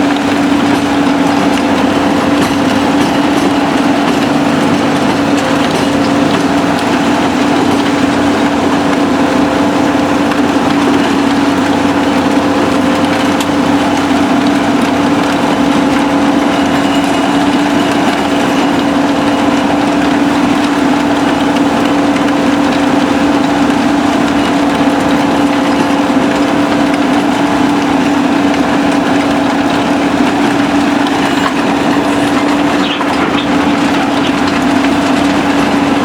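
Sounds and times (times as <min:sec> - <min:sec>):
diesel machinery droning: 0:00.0 - 0:36.0
impact crusher crushing concrete: 0:00.0 - 0:36.0.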